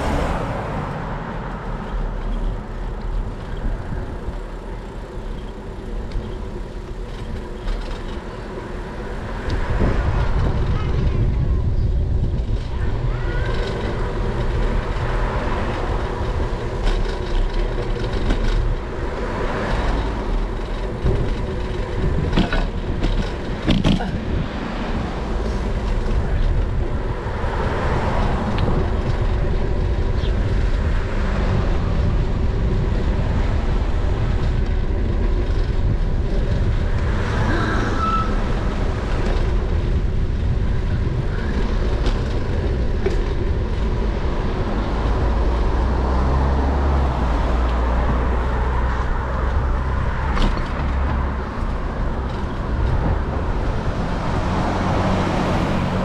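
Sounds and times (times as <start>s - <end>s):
road rumble from bicycle: 0.0s - 56.0s
wind: 0.0s - 56.0s.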